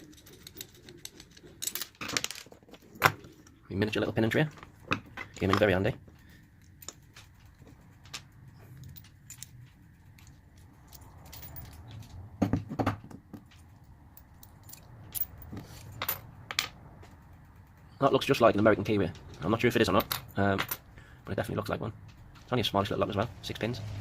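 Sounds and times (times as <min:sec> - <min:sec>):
padlock and tools clinking: 0:00.0 - 0:18.0, 0:18.8 - 0:21.0.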